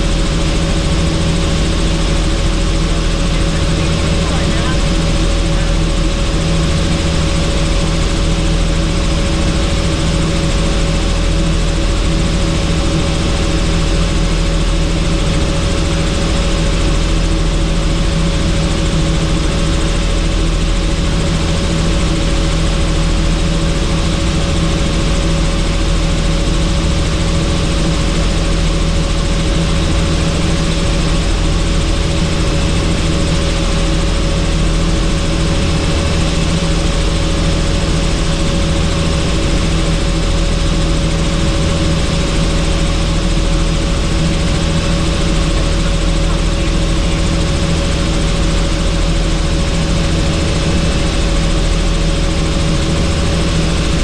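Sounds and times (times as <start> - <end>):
helicopter rotor and engine noise: 0.0 - 54.0.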